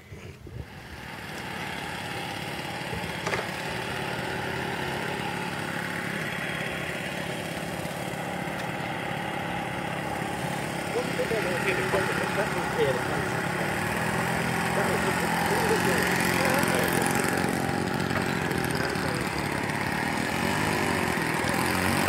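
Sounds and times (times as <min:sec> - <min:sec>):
model plane engine running: 0:00.4 - 0:22.0.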